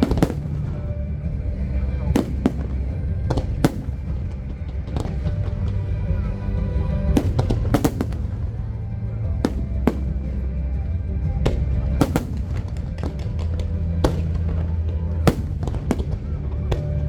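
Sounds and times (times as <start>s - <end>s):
fireworks bangs: 0.0s - 17.0s
loud music with deep bass: 0.0s - 17.0s.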